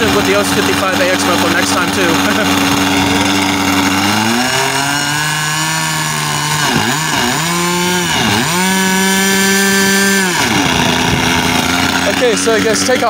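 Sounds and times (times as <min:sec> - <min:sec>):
model airplane engine revving: 0:00.0 - 0:13.0.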